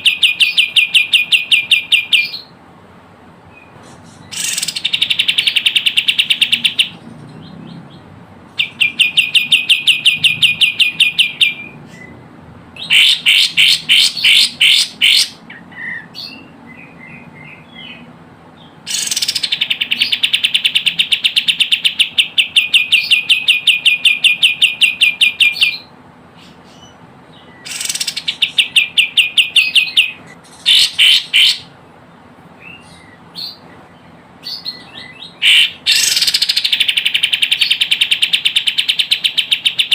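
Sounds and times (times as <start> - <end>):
bird chattering trill: 0.0 - 2.6, 3.6 - 12.2, 12.8 - 31.8, 32.7 - 39.9.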